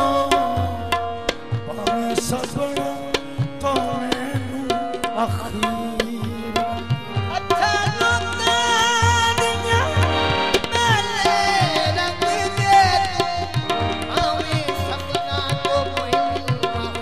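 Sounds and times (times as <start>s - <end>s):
harmonium melody: 0.0s - 17.0s
tabla drumming: 0.0s - 17.0s.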